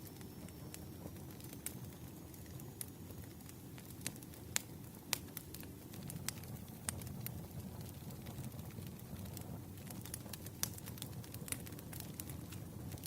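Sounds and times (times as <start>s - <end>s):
firewood crackling and popping: 0.0s - 13.0s
low rush of flame: 0.0s - 13.0s.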